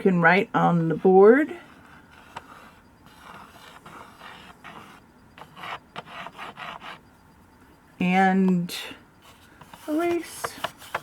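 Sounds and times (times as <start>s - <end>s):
chalk scratching on chalkboard: 0.0s - 7.1s, 9.2s - 11.0s.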